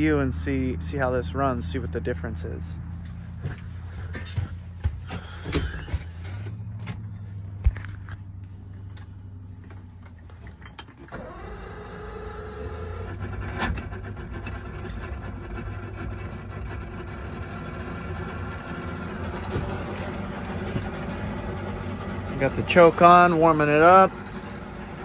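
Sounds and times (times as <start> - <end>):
outboard motor starting and idling: 3.1 - 25.0.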